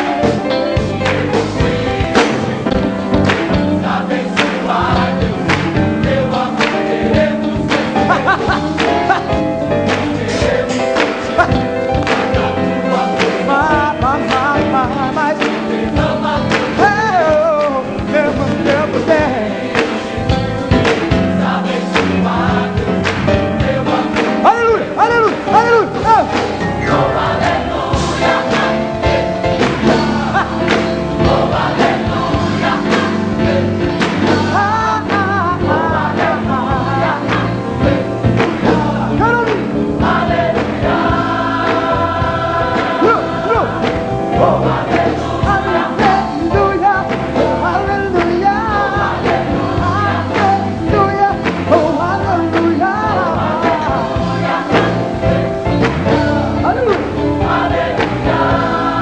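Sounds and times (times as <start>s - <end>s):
band accompaniment with steady beat: 0.0s - 59.0s
choir singing: 0.0s - 59.0s
lead voice singing: 0.0s - 59.0s.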